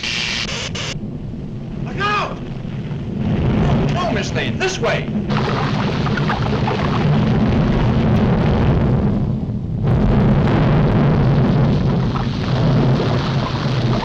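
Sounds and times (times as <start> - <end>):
crackling noise: 0.0 - 14.0
volcano eruption rumble: 0.0 - 14.0.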